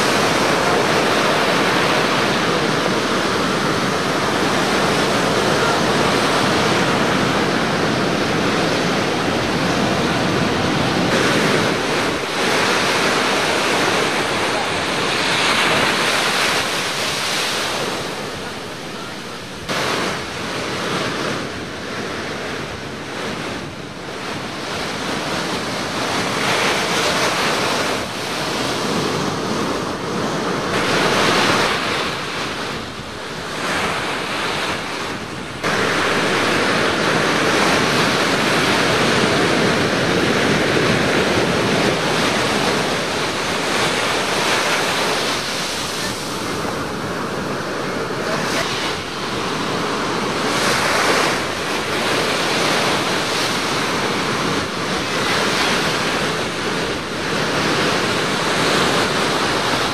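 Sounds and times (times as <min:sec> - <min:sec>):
waves breaking on beach: 0:00.0 - 0:59.9
wind buffeting microphone: 0:00.0 - 0:59.9.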